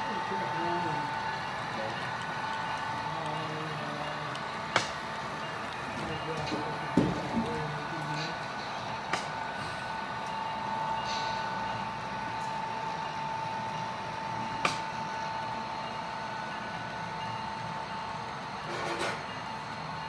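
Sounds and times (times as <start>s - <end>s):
model train whine: 0.0s - 20.0s.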